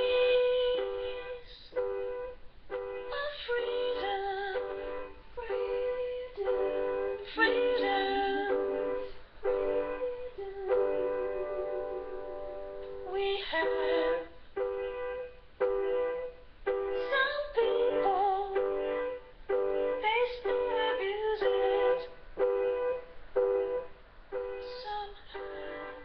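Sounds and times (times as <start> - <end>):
repeated backing chord: 0.0 - 26.0.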